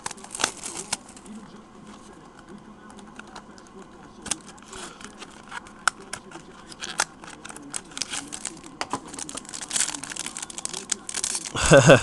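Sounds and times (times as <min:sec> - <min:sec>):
plastic wrapper crinkling: 0:00.0 - 0:01.4, 0:02.9 - 0:11.6.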